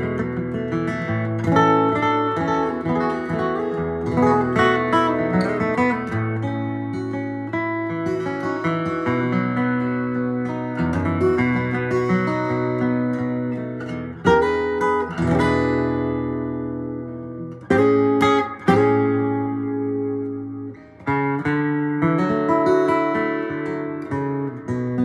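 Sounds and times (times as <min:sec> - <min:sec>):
acoustic guitar fingerstyle: 0:00.0 - 0:25.0.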